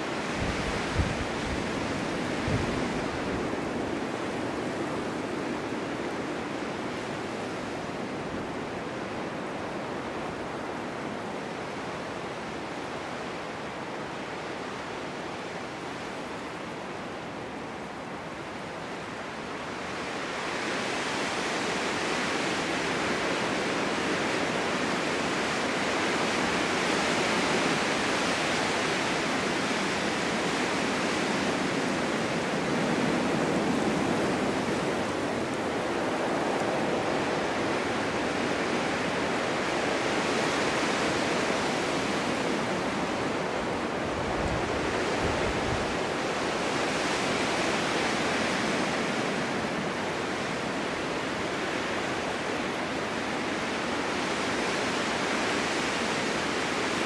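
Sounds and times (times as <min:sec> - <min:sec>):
snowstorm wind blowing: 0:00.0 - 0:57.0.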